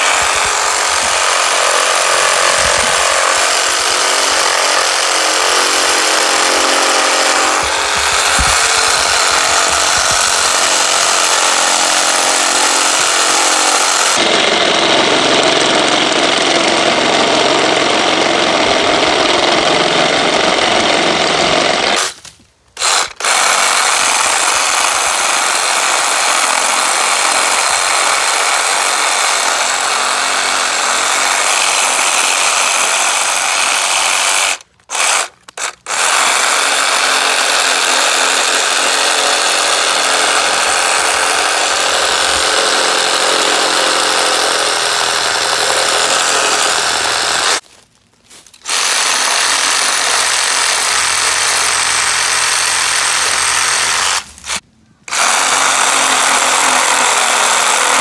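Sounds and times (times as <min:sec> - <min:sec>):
reciprocating saw cutting branches: 0:00.0 - 0:47.6, 0:48.3 - 0:58.0.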